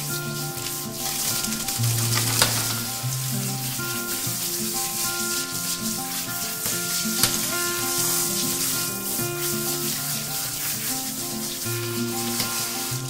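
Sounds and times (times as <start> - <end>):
background music: 0.0 - 13.0
shower sprayer hissing: 0.0 - 13.0.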